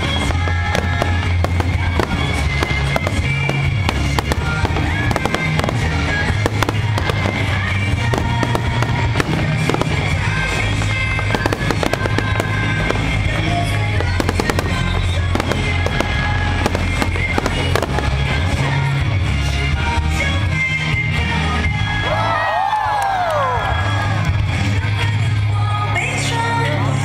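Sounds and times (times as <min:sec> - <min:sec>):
fireworks bangs and crackles: 0:00.0 - 0:22.0
music playing: 0:00.0 - 0:27.0.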